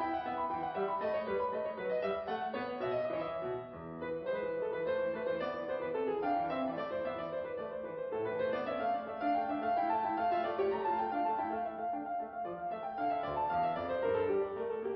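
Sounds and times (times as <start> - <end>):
background piano music: 0.0 - 14.9.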